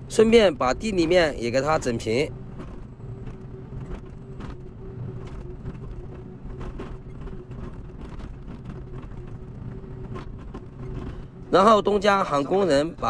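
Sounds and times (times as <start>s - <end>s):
diesel excavator engine: 0.0s - 13.0s
hydraulic whine: 0.0s - 13.0s.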